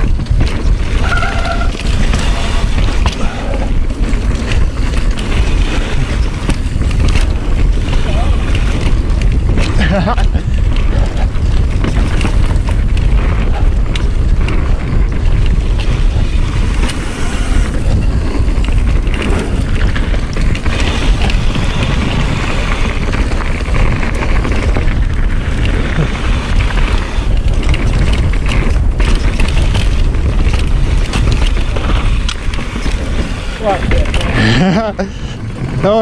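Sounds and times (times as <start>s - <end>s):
bike clattering over bumps: 0.0s - 36.0s
tyres rumbling on dirt: 0.0s - 36.0s
wind rushing over microphone: 0.0s - 36.0s.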